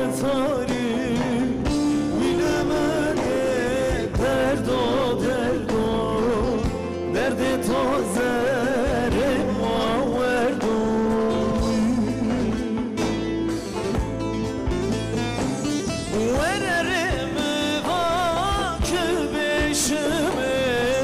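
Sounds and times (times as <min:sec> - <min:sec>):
man singing folk song with vibrato: 0:00.0 - 0:13.2, 0:16.0 - 0:21.0
band with violins: 0:00.0 - 0:21.0.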